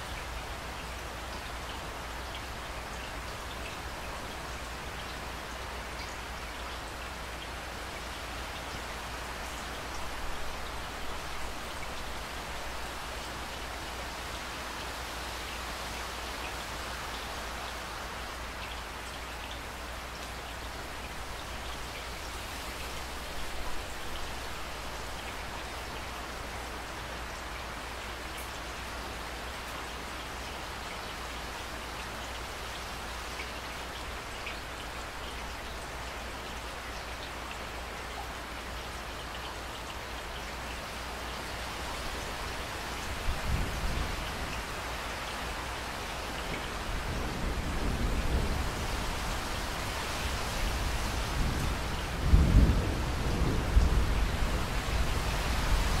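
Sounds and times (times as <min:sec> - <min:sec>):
raindrops ticking close by: 0:00.0 - 0:56.0
steady rain falling: 0:00.0 - 0:56.0.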